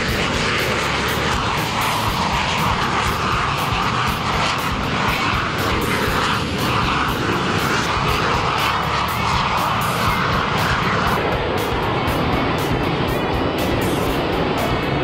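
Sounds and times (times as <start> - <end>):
jet engines whining on takeoff: 0.0 - 15.0.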